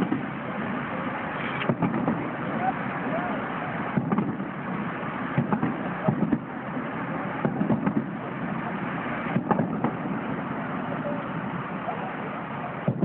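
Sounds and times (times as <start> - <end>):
fireworks bangs and pops: 0.0 - 11.9, 12.6 - 13.0
steady background noise: 0.0 - 13.0.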